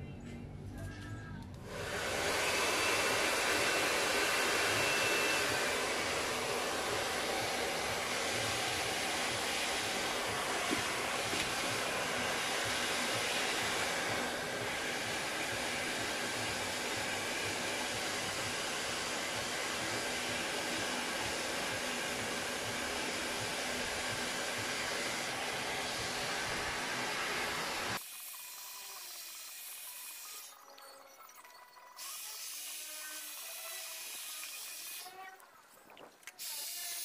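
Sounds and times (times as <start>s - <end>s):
hair dryer blowing: 1.6s - 30.6s, 32.0s - 35.1s, 36.3s - 37.0s.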